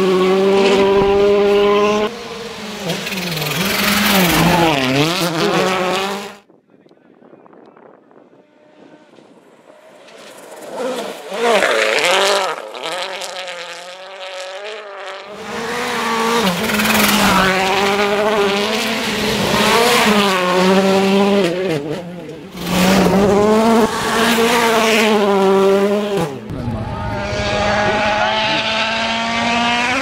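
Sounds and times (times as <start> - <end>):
rally car engines revving: 0.0 - 6.4, 8.2 - 30.0.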